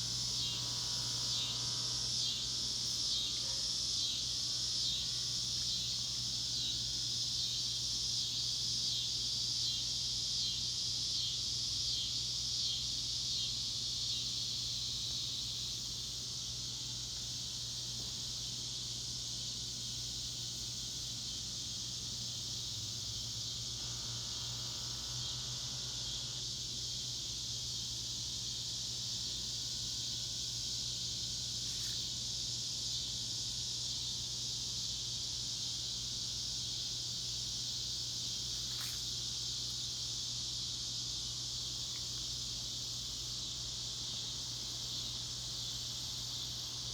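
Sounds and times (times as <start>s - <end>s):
cicadas singing: 0.0s - 46.9s.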